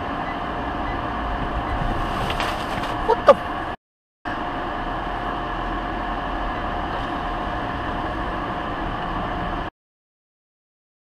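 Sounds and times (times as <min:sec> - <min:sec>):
constant whine: 0:00.0 - 0:09.7.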